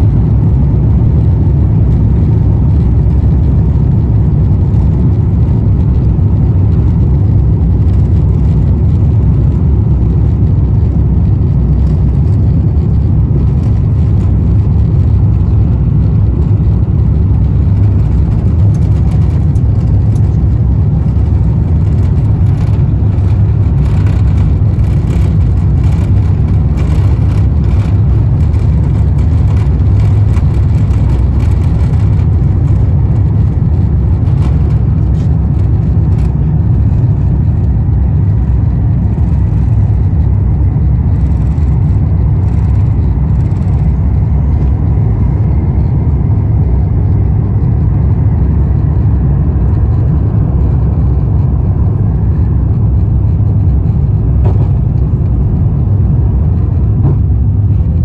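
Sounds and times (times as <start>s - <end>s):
jet engines deep rumble: 0.0s - 58.0s.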